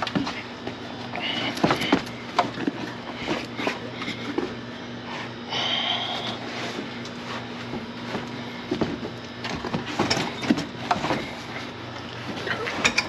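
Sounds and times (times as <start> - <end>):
carpet rustling and scraping: 0.0 - 5.4, 6.1 - 13.0
steady low hum: 0.0 - 13.0.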